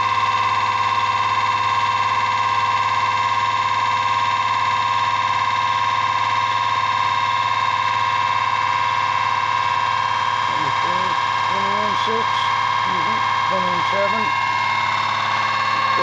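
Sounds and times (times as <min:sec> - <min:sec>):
motor generator buzz and whine: 0:00.0 - 0:16.0.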